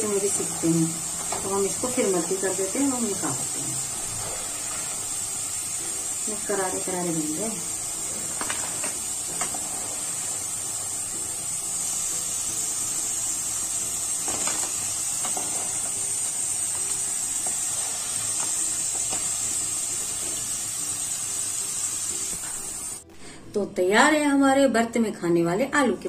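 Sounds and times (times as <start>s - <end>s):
food sizzling in hot oil: 0.0s - 23.1s.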